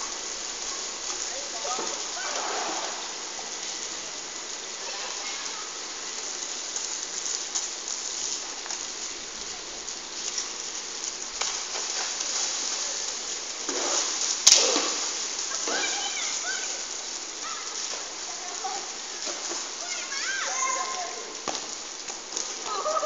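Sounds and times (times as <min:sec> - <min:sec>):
rain falling: 0:00.0 - 0:23.0
raindrops ticking: 0:00.0 - 0:23.0.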